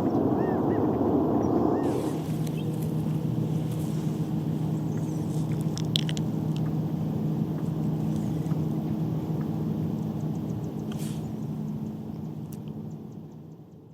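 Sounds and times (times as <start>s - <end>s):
low mechanical hum: 0.0s - 13.9s.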